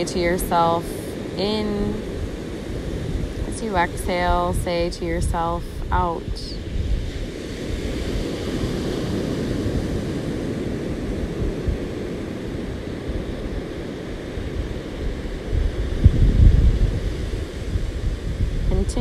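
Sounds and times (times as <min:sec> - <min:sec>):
ocean surf washing: 0:00.0 - 0:19.0.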